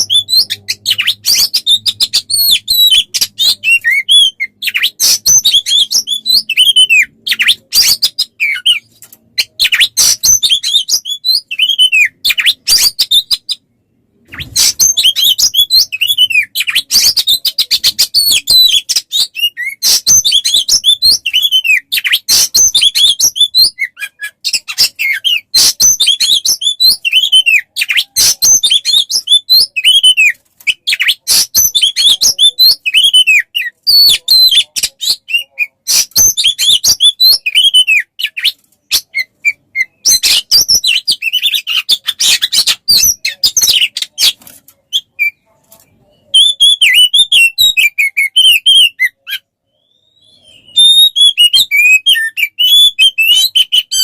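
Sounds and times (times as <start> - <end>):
songbird chirping and whistling: 0.0 - 54.0.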